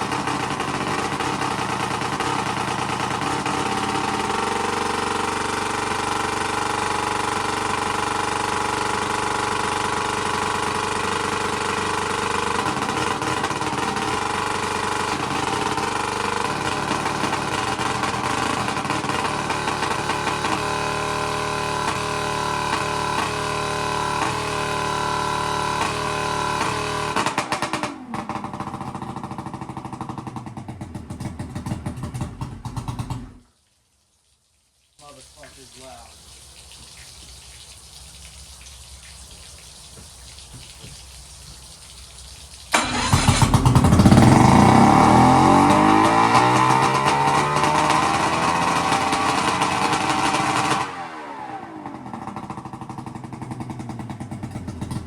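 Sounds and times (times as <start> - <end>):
outboard motor idling high: 0.0 - 33.4, 42.7 - 55.0.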